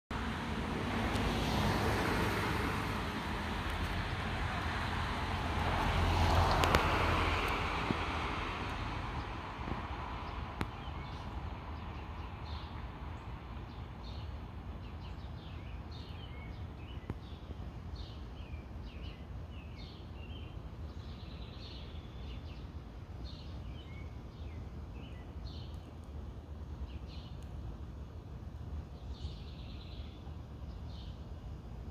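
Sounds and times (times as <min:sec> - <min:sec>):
small birds chirping: 0:06.3 - 0:31.9.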